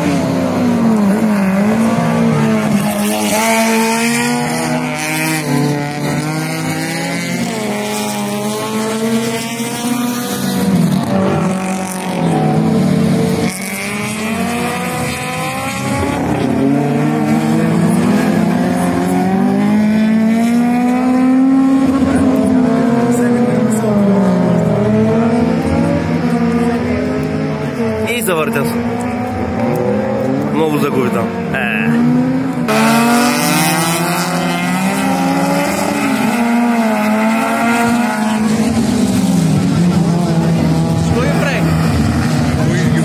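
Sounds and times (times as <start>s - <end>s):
racing car engines revving: 0.0s - 43.0s.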